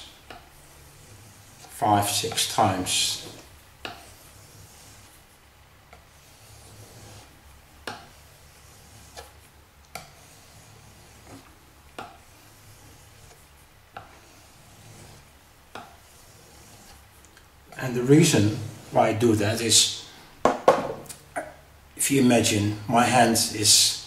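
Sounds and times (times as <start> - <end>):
knife scraping on whetstone: 0.0 - 19.9.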